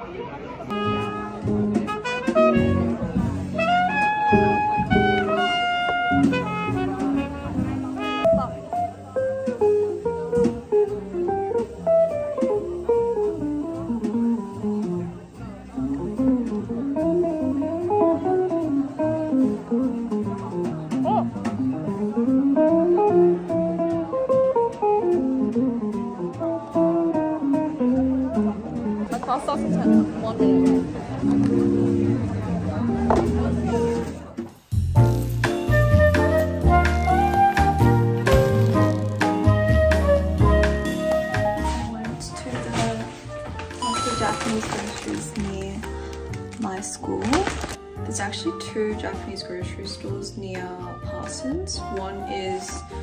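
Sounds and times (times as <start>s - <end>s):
jazzy horn music: 0.7s - 52.8s
plucked guitar melody: 0.7s - 53.0s.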